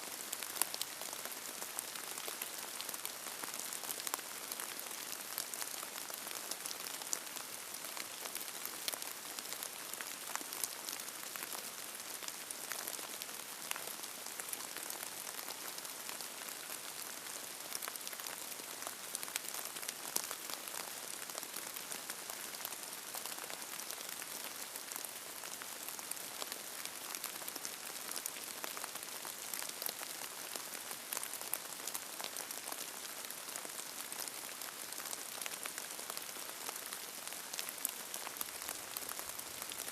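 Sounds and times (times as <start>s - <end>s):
steady rain falling: 0.0s - 39.9s
raindrops ticking on a surface: 0.2s - 39.9s.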